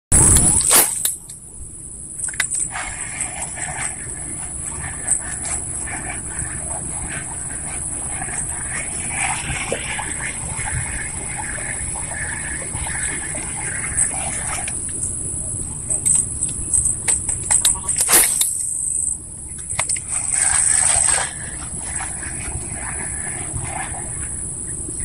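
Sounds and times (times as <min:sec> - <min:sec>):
insects buzzing: 0:00.2 - 0:25.0.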